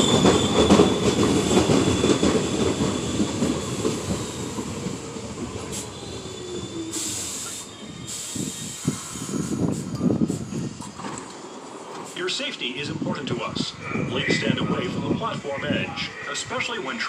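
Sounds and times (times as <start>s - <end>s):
subway train on rails: 0.0s - 17.0s.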